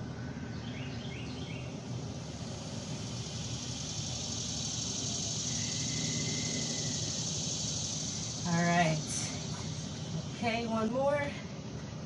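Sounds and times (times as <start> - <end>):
high hiss: 1.7 - 11.6.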